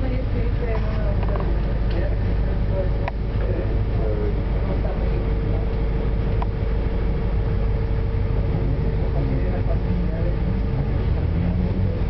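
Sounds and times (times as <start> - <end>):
bus engine rumbling: 0.0 - 12.0
steady hum: 0.0 - 12.0.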